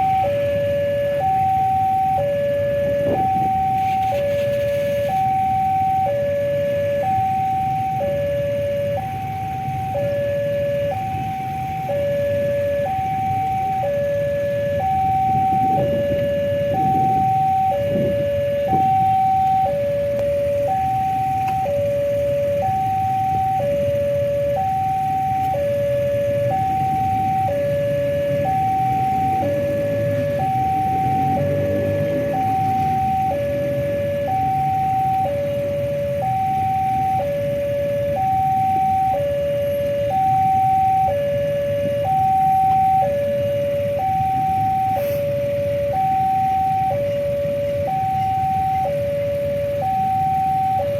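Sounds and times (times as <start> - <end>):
two-tone level crossing alarm: 0.0 - 50.9.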